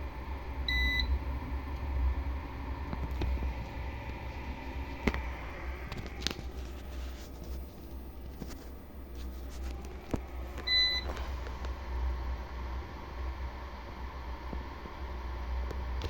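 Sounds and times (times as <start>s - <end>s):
diesel heater humming: 0.0s - 16.0s.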